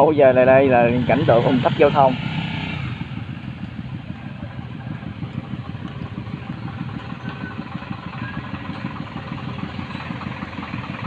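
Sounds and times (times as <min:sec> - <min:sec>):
motorcycles idling: 0:00.0 - 0:11.0.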